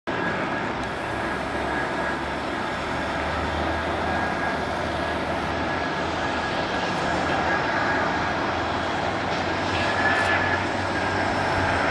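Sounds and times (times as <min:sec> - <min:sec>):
jet engine whine: 0:00.1 - 0:11.9
jet engines rumble: 0:00.1 - 0:11.9.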